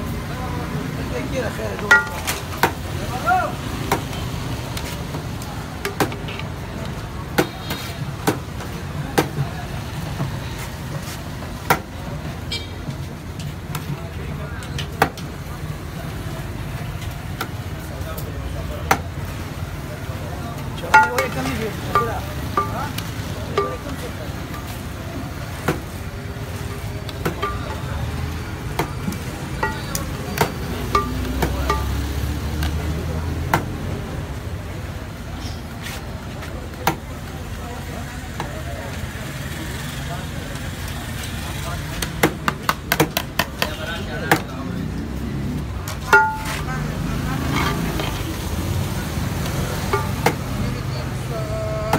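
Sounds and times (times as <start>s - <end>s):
low rumble of street traffic: 0.0s - 51.9s.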